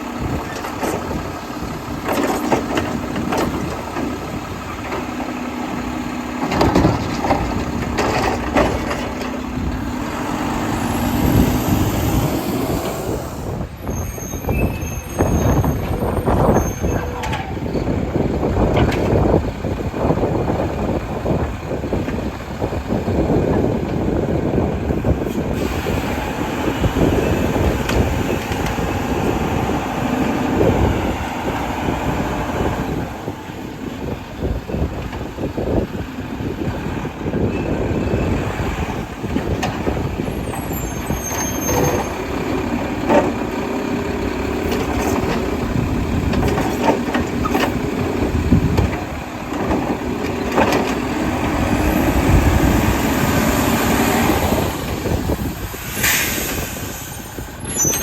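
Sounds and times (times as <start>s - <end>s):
garbage truck engine running: 0.0s - 58.0s.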